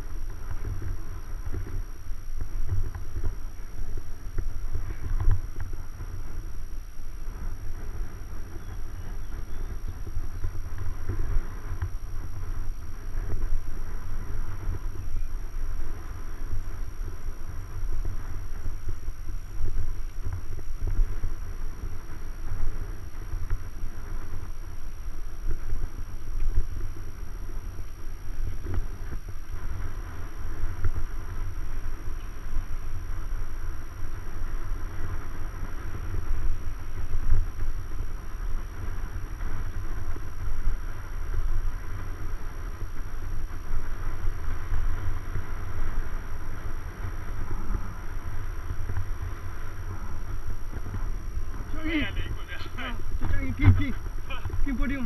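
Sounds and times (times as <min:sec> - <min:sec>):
bicycle tyre noise on asphalt: 0:00.0 - 0:55.0
wind buffeting microphone: 0:00.0 - 0:55.0.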